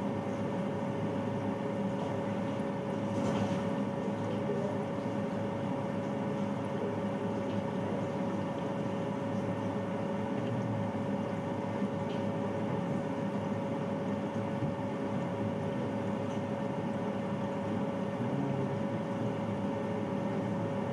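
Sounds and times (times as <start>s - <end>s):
gas water heater humming: 0.0s - 20.9s.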